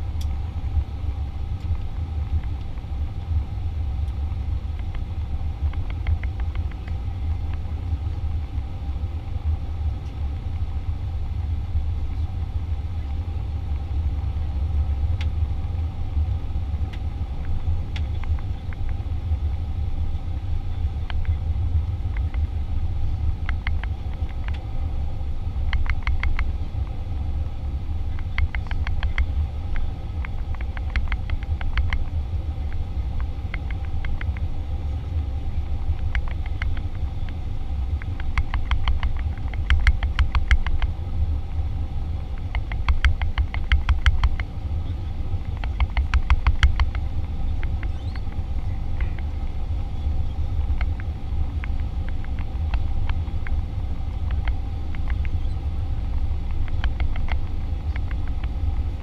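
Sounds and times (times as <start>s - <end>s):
jet engine rumble in cabin: 0.0s - 59.0s
light rattle of rapid ticks: 0.0s - 59.0s.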